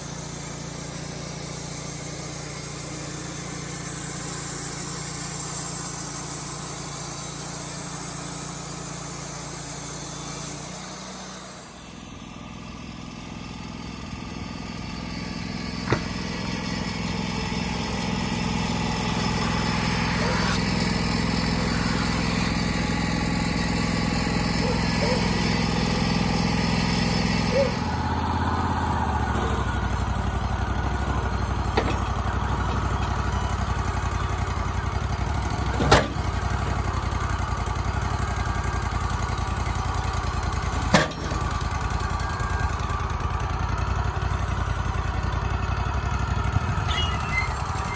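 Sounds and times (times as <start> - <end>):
band saw blade cutting wood: 0.0 - 12.0, 15.1 - 42.0
sawmill engine running: 0.0 - 47.9.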